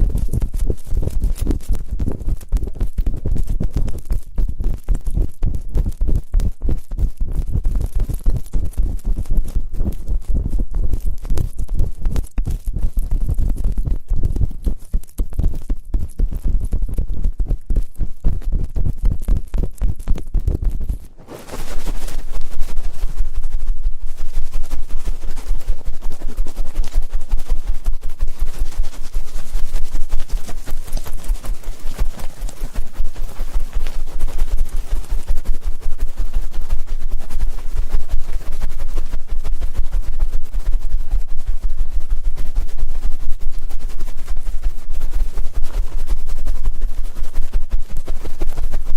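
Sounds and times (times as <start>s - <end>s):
crackling scratching: 0.0s - 48.9s.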